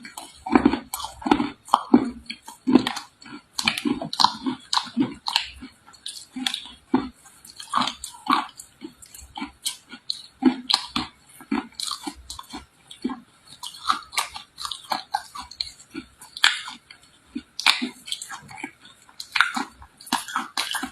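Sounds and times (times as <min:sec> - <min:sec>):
chewing mouth sounds: 0:00.0 - 0:20.9.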